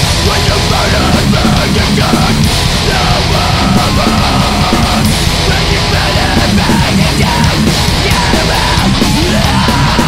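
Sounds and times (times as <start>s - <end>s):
heavy metal rock music: 0.0s - 10.0s.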